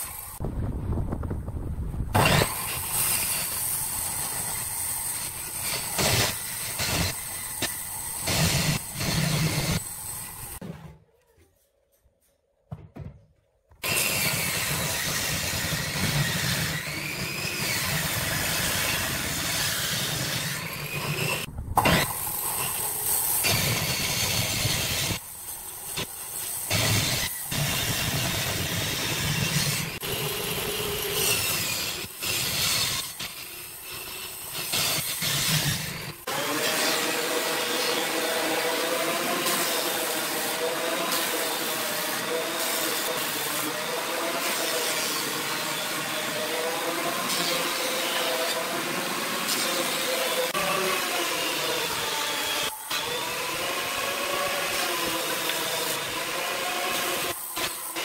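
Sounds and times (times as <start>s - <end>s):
table saw cutting boards: 2.2s - 11.0s, 13.8s - 58.0s.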